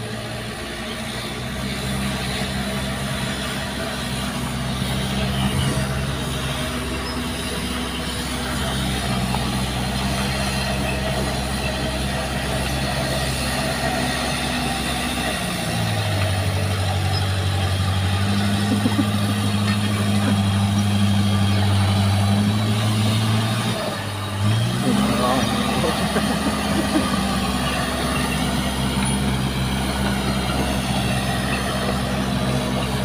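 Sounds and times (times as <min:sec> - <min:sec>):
bulldozer diesel engine revving: 0:00.0 - 0:33.0.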